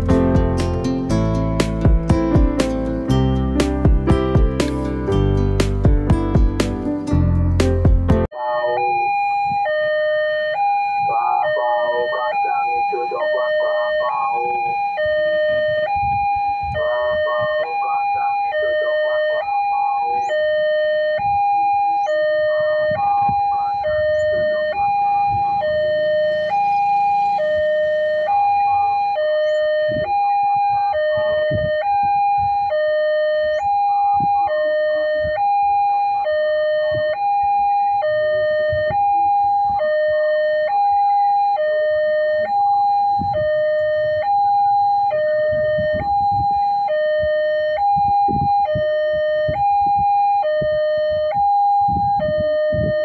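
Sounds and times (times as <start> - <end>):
two-tone level crossing alarm: 8.2 - 53.0.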